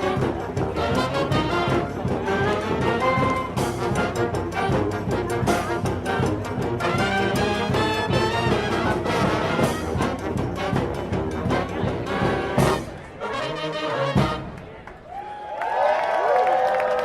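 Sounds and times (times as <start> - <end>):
brass music with percussion: 0.0 - 14.8.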